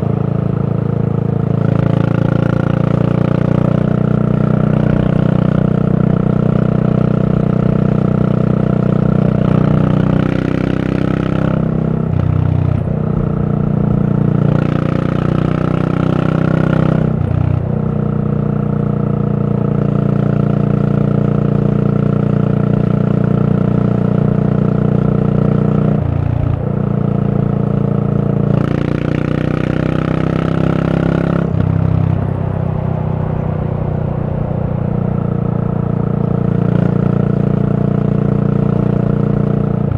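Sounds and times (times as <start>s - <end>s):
motorcycle exhaust: 0.0s - 39.9s.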